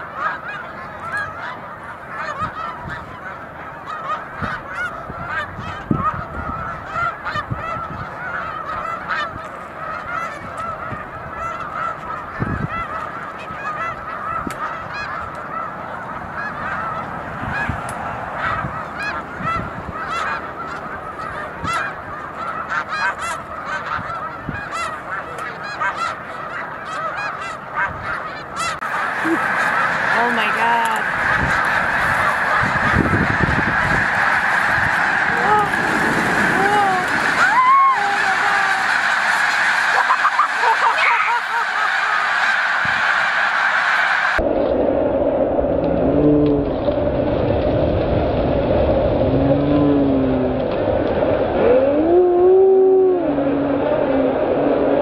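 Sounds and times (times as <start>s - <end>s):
geese honking: 0.0s - 44.4s.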